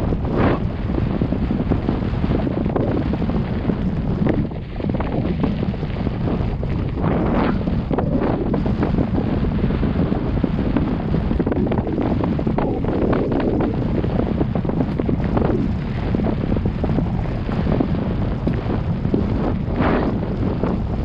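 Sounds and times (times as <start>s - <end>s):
bike rattling over rough ground: 0.0s - 21.0s
bike tyres on trail: 0.0s - 21.0s
wind buffeting microphone: 0.0s - 21.0s.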